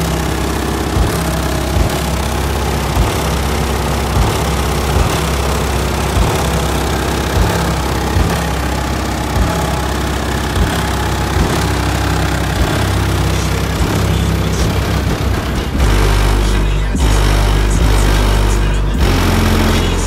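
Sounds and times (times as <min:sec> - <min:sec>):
bass-heavy music from car subwoofers: 0:00.0 - 0:20.0.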